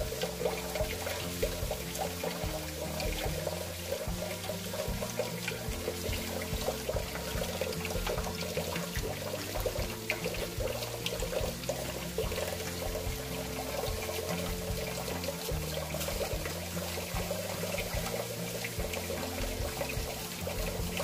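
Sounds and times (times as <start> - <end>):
background music: 0.0 - 21.0
tap running into metal sink: 0.0 - 21.0.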